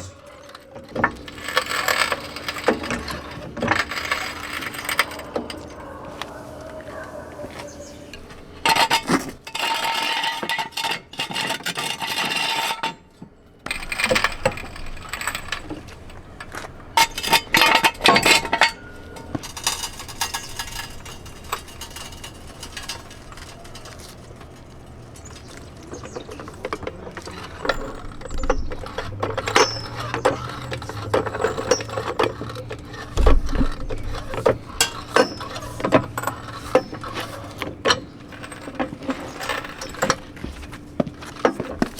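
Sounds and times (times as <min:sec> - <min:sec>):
metal tools clinking: 0:00.0 - 0:41.9
tools scraping: 0:00.0 - 0:41.9.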